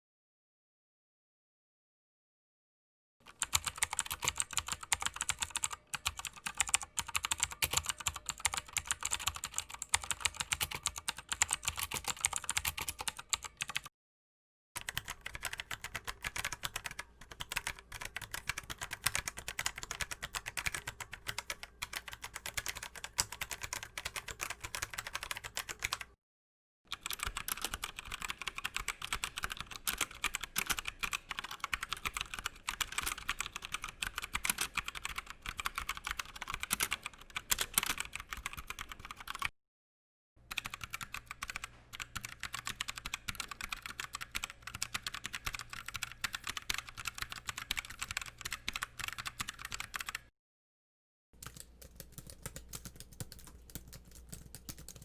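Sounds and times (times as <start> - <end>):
computer keyboard typing: 3.3 - 13.9, 14.8 - 26.2, 26.9 - 39.5, 40.5 - 50.3, 51.4 - 55.0.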